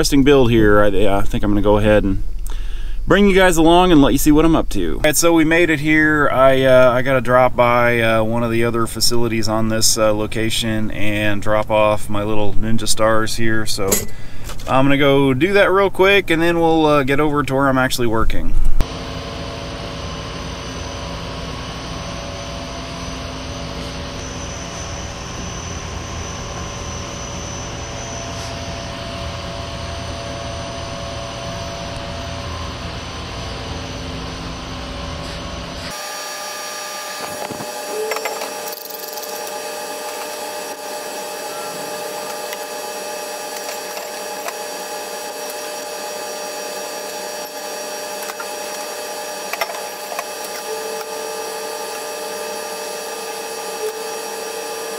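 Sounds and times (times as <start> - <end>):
mechanical noise with hum: 0.0 - 54.9
thin hum with steady tones: 0.0 - 54.9.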